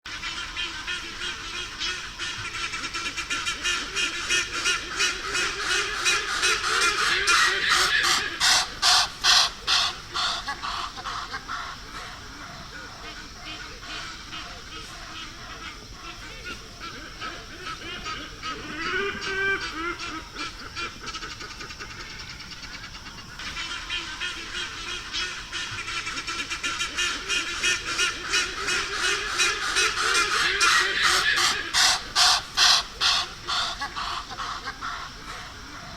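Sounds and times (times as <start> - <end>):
hornbill honking calls: 0.1 - 35.9.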